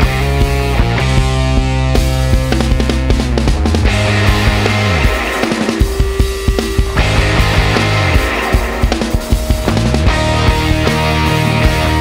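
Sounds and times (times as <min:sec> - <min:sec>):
rock music with drums and guitar: 0:00.0 - 0:12.0.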